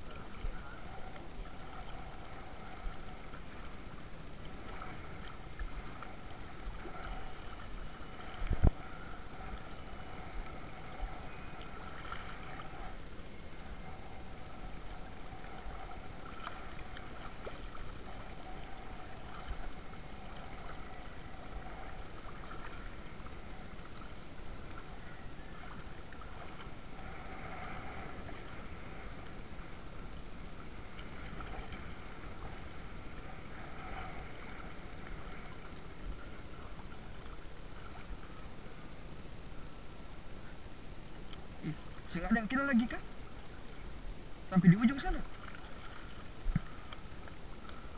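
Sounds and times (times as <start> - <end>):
water sloshing and rushing: 0.0 - 47.9.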